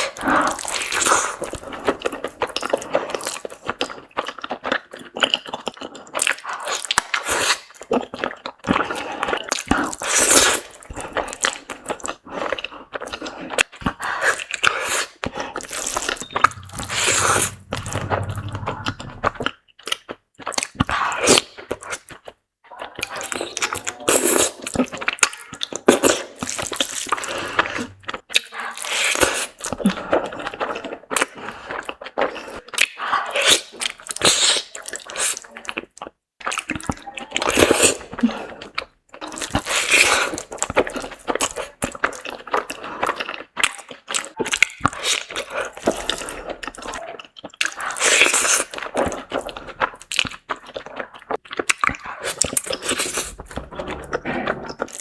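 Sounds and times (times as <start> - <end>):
chewing and crunching: 0.0 - 17.8, 18.4 - 55.0
wet mouth sounds: 0.0 - 55.0.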